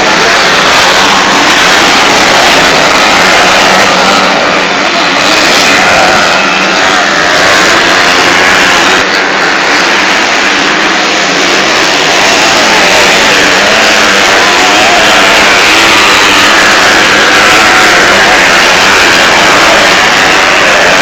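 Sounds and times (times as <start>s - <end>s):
motocross engines revving: 0.0s - 21.0s.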